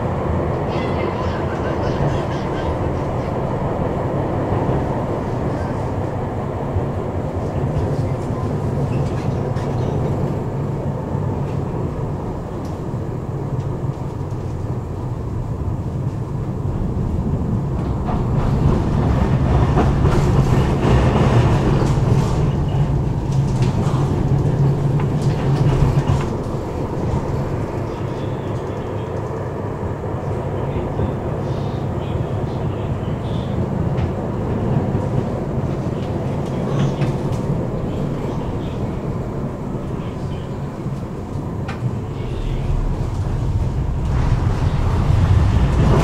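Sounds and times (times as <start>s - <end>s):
tram rumbling on rails: 0.0s - 46.0s.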